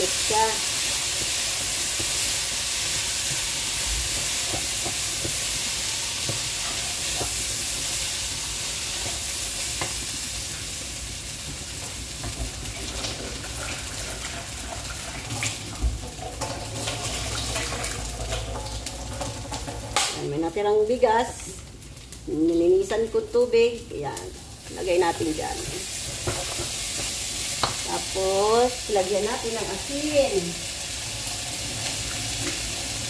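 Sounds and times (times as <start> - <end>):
rice sizzling in oil: 0.0 - 33.0.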